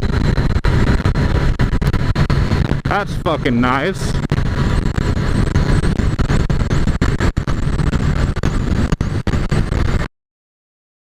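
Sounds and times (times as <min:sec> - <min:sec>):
moving vehicle rumble: 0:00.0 - 0:10.1
wind noise: 0:00.0 - 0:10.1.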